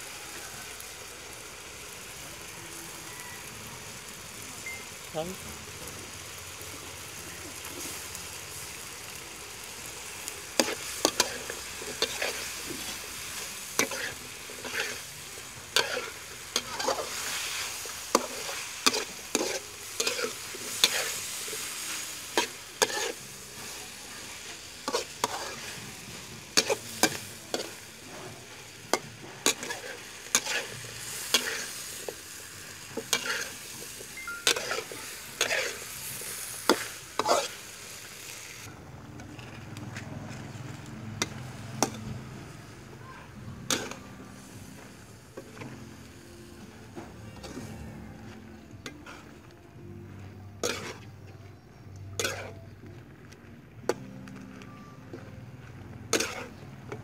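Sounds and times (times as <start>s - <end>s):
food sizzling in a pan: 0.0s - 38.7s, 40.3s - 52.6s, 56.1s - 57.0s.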